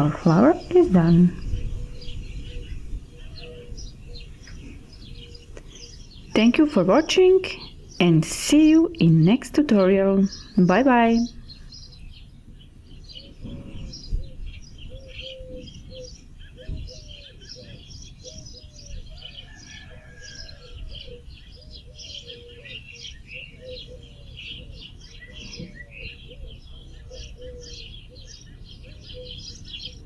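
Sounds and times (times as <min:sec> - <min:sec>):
low repeated bird call notes: 0:00.0 - 0:30.0
small birds chirping: 0:00.0 - 0:30.0.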